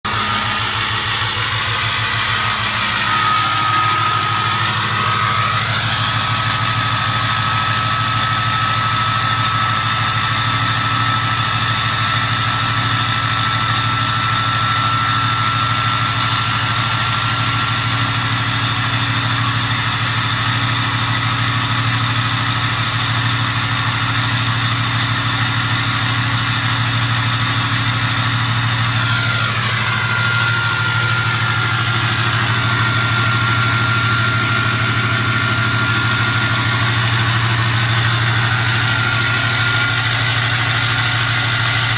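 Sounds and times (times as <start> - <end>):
diesel engine idling: 0.0 - 41.9
turbocharger whistle: 0.0 - 41.9.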